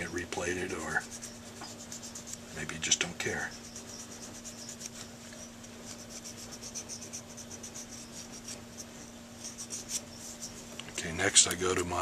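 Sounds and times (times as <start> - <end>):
sandpaper scratching on metal: 0.0 - 10.6
steady low hum: 0.0 - 12.0.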